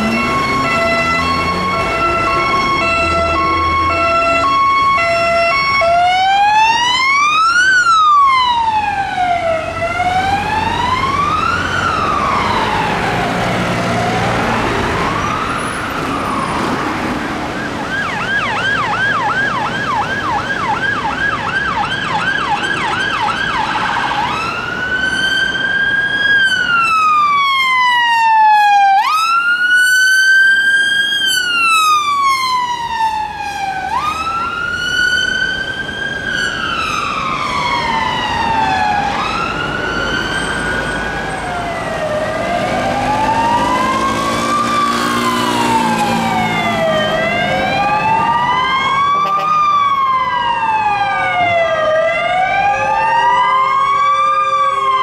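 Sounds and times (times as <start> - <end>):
emergency vehicle siren yelp and wail: 0.0 - 55.0
two-tone police siren: 0.0 - 55.0.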